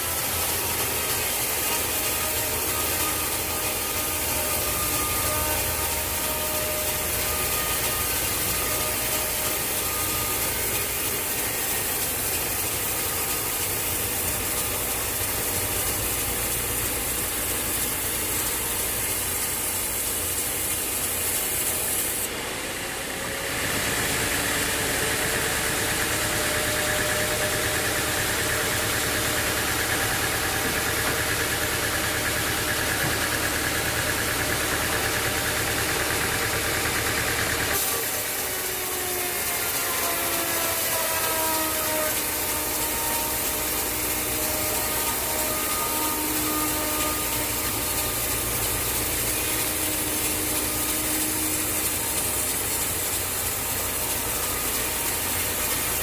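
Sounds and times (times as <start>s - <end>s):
high-pitched machine whir: 0.0s - 56.0s
sawmill machinery running: 0.0s - 56.0s.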